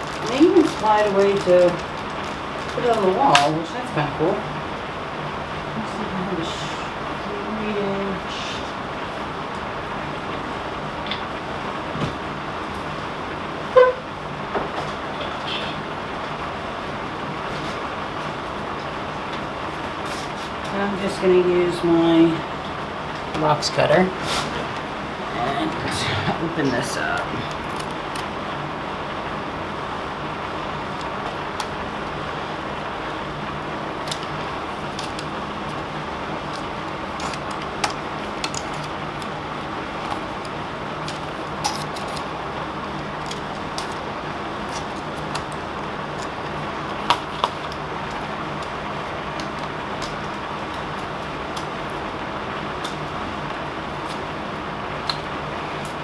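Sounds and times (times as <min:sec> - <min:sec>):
steady hum and hiss: 0:00.0 - 0:56.0.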